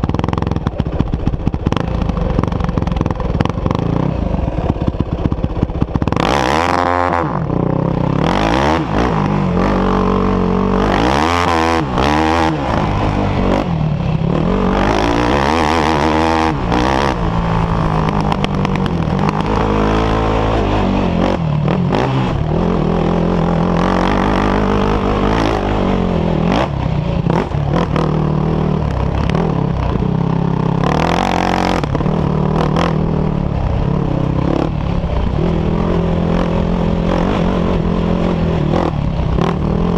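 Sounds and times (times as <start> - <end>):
off-road engines revving: 0.0 - 39.9.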